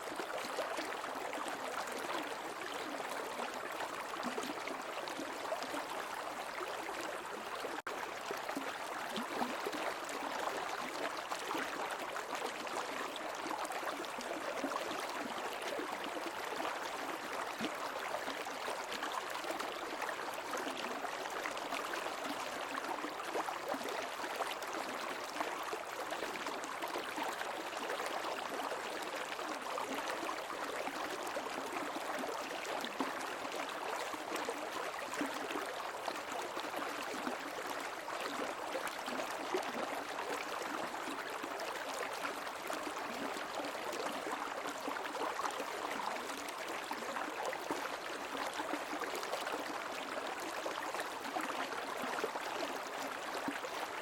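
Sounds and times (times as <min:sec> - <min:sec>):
stream water flowing and splashing: 0:00.0 - 0:54.0.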